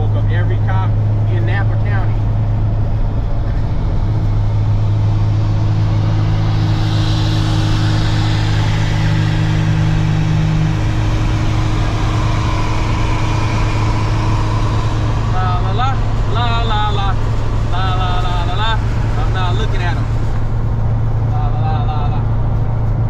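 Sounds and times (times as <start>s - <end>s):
car engine drone: 0.0s - 23.0s
road hiss: 3.5s - 23.0s.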